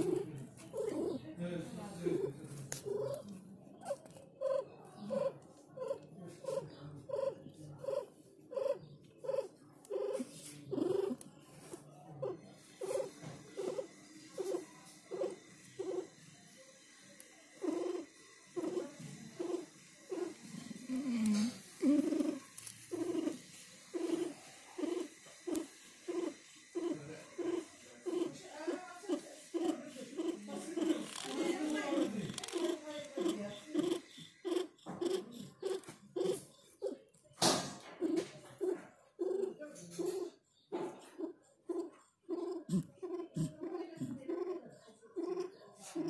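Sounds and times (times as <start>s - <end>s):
cat moaning: 0.0s - 1.2s, 2.1s - 11.2s, 12.2s - 16.1s, 17.6s - 37.1s, 38.0s - 40.4s, 41.0s - 46.0s
cat purring: 0.0s - 16.2s, 17.5s - 46.0s.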